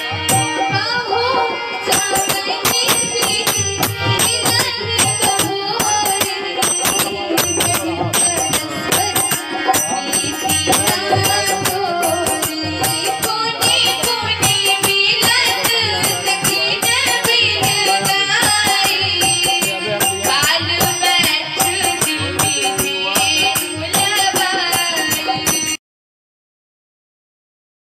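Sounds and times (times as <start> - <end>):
harmonium chords: 0.0 - 25.8
jingling hand percussion: 0.0 - 25.8
woman singing: 0.0 - 25.8.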